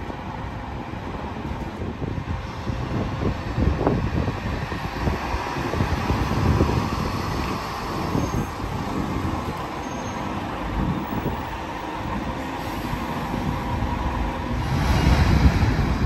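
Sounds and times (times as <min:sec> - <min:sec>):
bus engine accelerating: 0:00.0 - 0:16.0.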